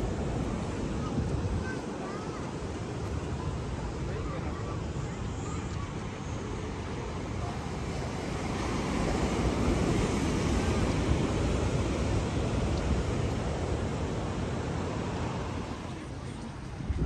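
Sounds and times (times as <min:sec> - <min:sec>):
surf washing onto beach: 0:00.0 - 0:17.0
wind rumbling on microphone: 0:00.0 - 0:17.0.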